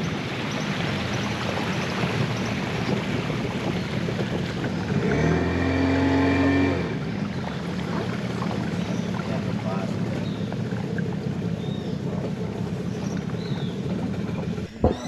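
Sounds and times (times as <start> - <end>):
boat engine drone: 0.0 - 15.0
wind and water rushing: 0.0 - 15.0.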